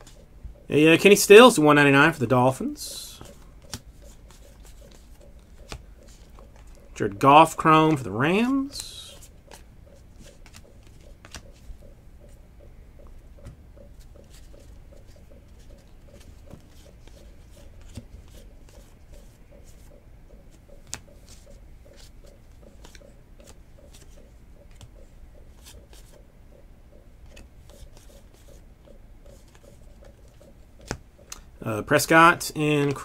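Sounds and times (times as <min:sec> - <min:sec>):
low room hum: 0:00.0 - 0:33.0
trading cards flicking: 0:03.2 - 0:26.3, 0:27.0 - 0:33.0.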